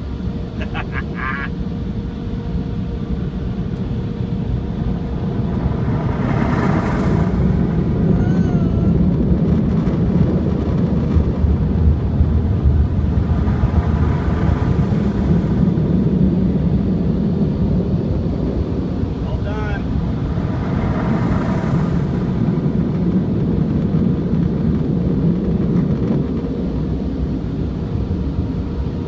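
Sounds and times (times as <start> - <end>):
car wash air dryers blowing: 0.0 - 1.9, 2.7 - 29.0.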